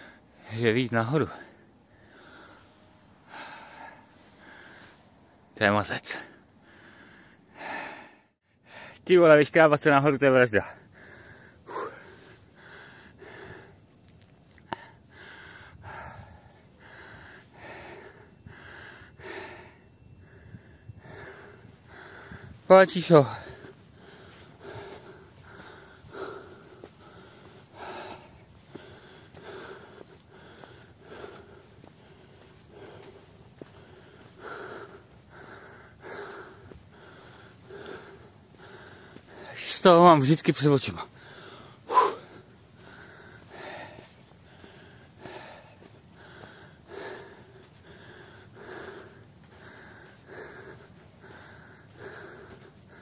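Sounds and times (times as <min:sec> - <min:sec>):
man panting heavily: 0:00.0 - 0:09.0, 0:10.6 - 0:53.0
person breathing hard: 0:01.4 - 0:05.5, 0:06.2 - 0:09.0, 0:10.7 - 0:39.7, 0:40.9 - 0:53.0.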